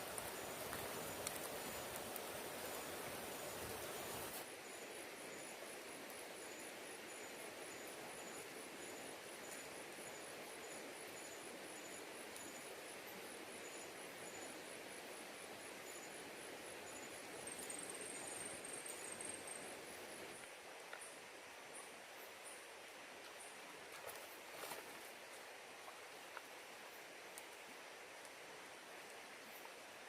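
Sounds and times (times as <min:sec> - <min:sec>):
irregular insect chirp: 0:00.0 - 0:27.6
faint hiss: 0:00.0 - 0:30.0.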